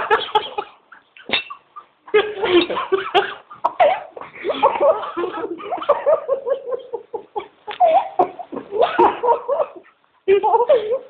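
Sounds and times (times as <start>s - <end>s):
people laughing and giggling: 2.1s - 11.0s.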